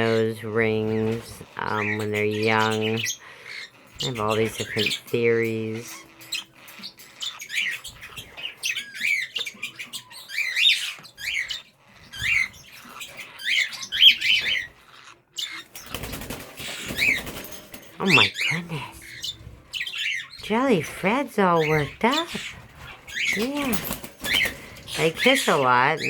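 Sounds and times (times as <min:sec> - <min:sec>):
budgies chattering: 0:00.0 - 0:26.0.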